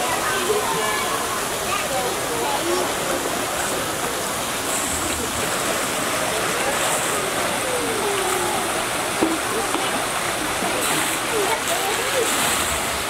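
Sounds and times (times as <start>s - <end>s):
water churning and sloshing: 0.0s - 13.0s.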